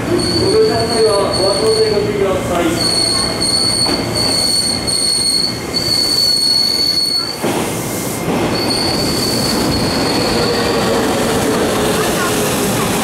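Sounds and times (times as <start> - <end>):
train cars rumbling: 0.0 - 13.0
train wheels squealing on track: 0.0 - 13.0.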